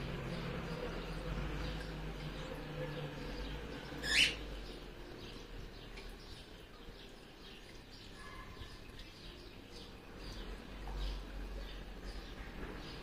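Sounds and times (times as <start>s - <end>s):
bird chirping: 0.0s - 13.0s
fountain water trickling: 0.0s - 13.0s.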